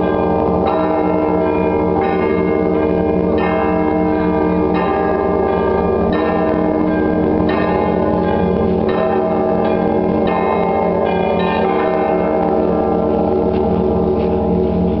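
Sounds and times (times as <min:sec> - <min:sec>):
large church bells ringing: 0:00.0 - 0:15.0
small church bells struck quickly: 0:00.0 - 0:15.0.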